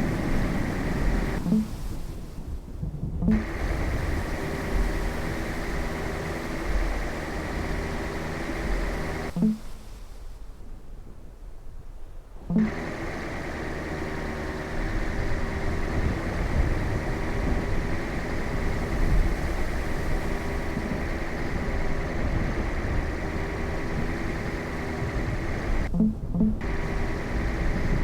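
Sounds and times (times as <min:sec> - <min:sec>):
vehicle engine running: 0:00.0 - 0:02.2, 0:03.2 - 0:09.9, 0:12.5 - 0:28.0.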